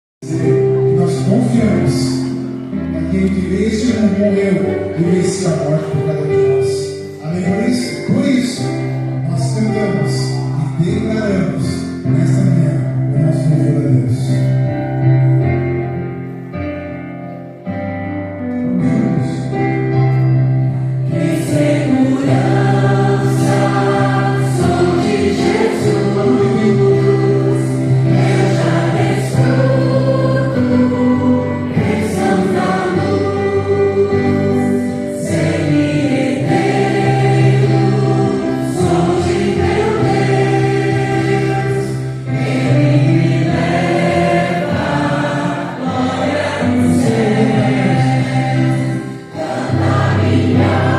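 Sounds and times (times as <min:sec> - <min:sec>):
choir singing a hymn: 0:00.2 - 0:16.5, 0:18.8 - 0:50.9.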